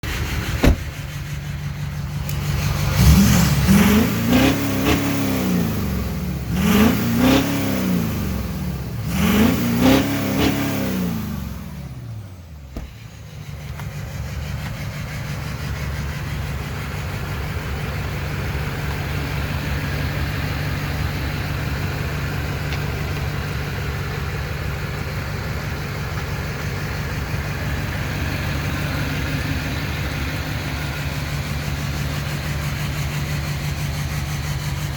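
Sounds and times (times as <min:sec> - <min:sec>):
diesel engine idling and revving: 0:00.0 - 0:34.9.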